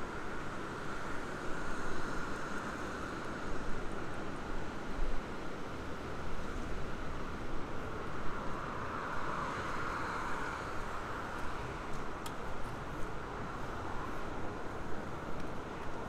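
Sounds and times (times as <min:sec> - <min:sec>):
street background hum: 0:02.6 - 0:16.0.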